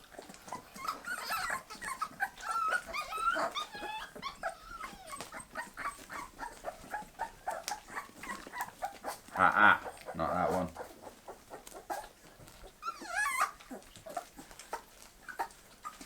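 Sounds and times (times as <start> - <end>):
puppies whimpering and squeaking: 0.0 - 16.0.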